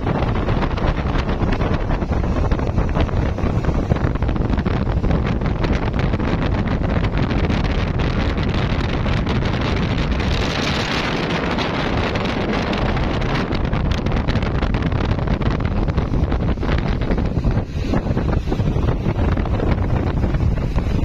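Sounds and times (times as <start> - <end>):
boat engine noise: 0.0 - 21.0
water rushing: 0.0 - 21.0
wind buffeting microphone: 0.0 - 21.0.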